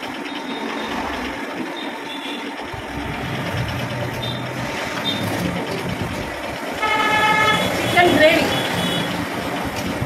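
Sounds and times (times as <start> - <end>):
large vehicle engine rumbling: 0.0 - 10.0.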